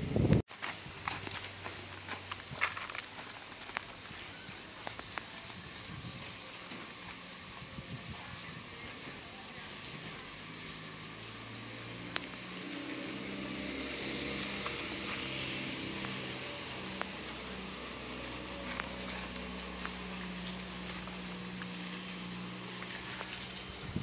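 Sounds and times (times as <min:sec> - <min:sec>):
hose water hissing onto soil: 0:00.5 - 0:24.0
low motor hum: 0:03.4 - 0:24.0.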